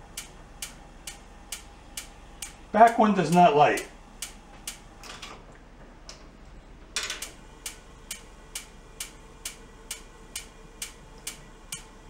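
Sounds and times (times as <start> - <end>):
stovetop spark igniter clicking: 0.2 - 5.1, 7.2 - 11.9.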